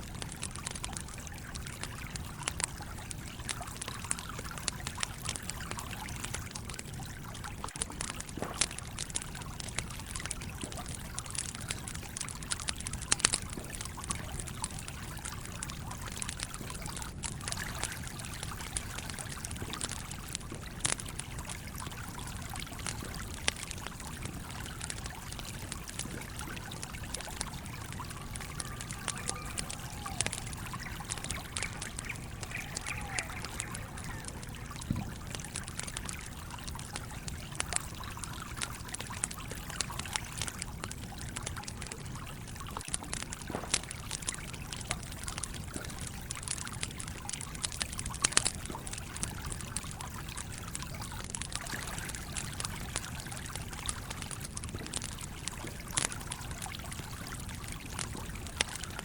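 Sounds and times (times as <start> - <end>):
campfire crackling: 0.0 - 59.0
stream flowing: 0.0 - 59.0.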